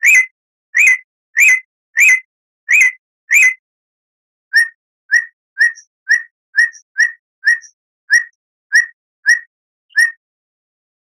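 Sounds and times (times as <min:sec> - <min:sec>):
whistled bird chip note: 0:00.0 - 0:03.6, 0:04.5 - 0:10.2.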